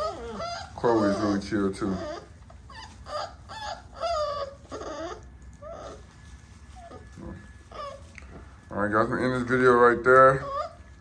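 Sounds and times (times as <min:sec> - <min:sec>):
puppies whining and yipping: 0:00.0 - 0:08.7, 0:09.5 - 0:11.0.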